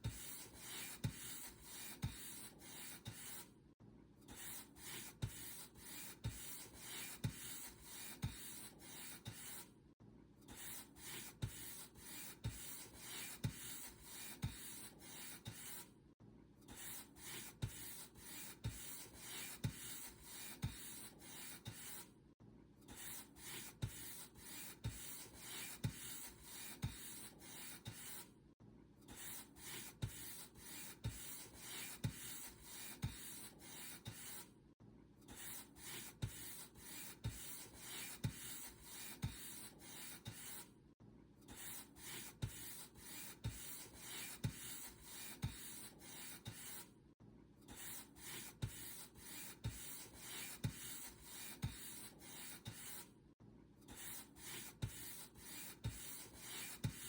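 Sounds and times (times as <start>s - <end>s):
paint brush scratchy strokes: 0.1s - 3.5s, 4.4s - 9.7s, 10.6s - 15.9s, 16.8s - 22.1s, 23.0s - 28.3s, 29.1s - 34.5s, 35.4s - 40.7s, 41.6s - 46.9s, 47.8s - 53.1s, 53.9s - 57.0s.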